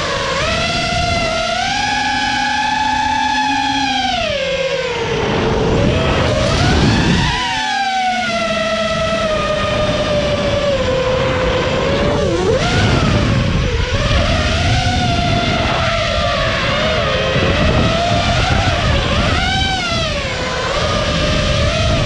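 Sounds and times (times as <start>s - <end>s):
quadcopter motors whining: 0.0s - 22.0s
rush of wind: 0.0s - 22.0s.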